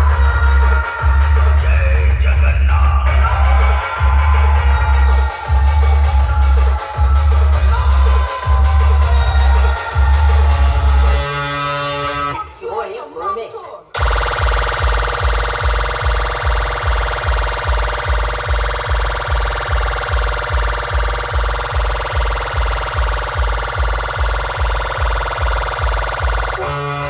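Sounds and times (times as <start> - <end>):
heavy bass kick pounding: 0.0 - 12.4, 14.0 - 27.0.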